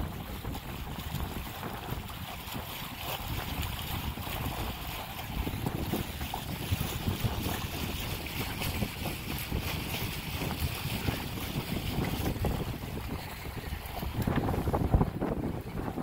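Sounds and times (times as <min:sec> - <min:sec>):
water rushing along hull: 0:00.0 - 0:16.0
wind gusting on microphone: 0:00.0 - 0:16.0.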